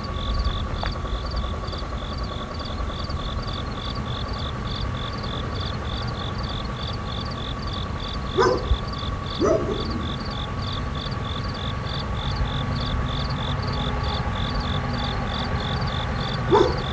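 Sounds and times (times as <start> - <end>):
steady whirr: 0.0 - 16.9.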